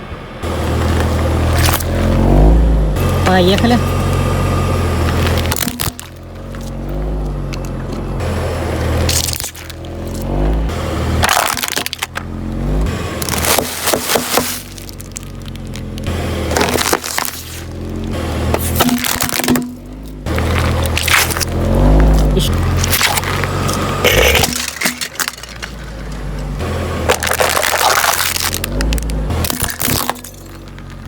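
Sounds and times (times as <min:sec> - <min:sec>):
car rumble: 0:00.0 - 0:31.0
tyres crunching objects: 0:00.4 - 0:31.0.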